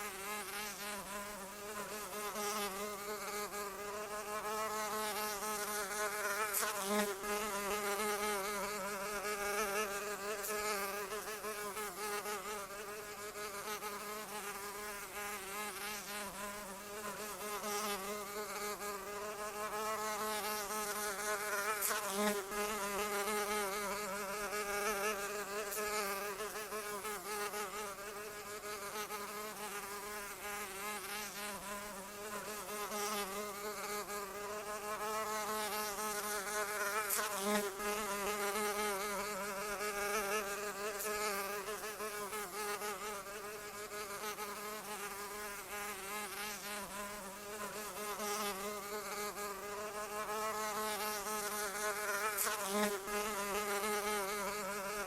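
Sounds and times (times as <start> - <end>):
insect wings buzzing: 0.0 - 55.0.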